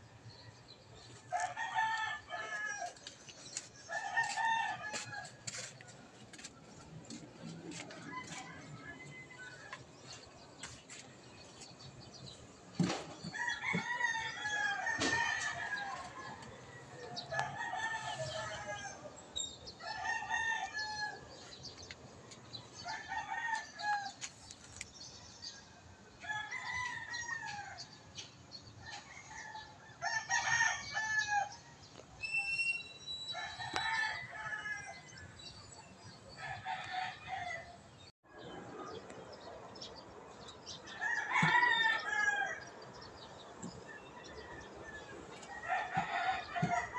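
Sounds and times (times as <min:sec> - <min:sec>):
roosters crowing: 0:01.2 - 0:03.2, 0:03.8 - 0:21.8, 0:22.7 - 0:24.3, 0:26.2 - 0:28.0, 0:28.8 - 0:32.0, 0:33.2 - 0:35.5, 0:36.1 - 0:38.0, 0:38.6 - 0:46.9.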